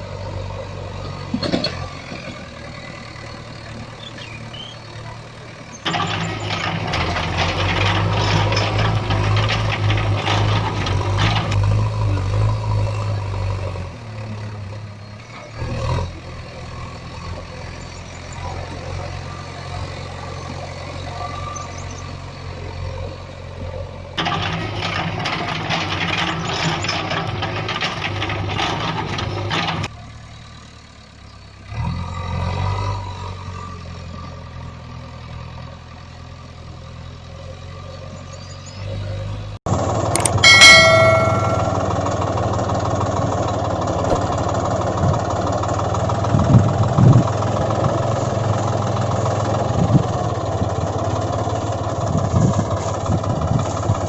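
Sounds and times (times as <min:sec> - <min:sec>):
heavy vehicle engine humming: 0:00.0 - 0:54.0.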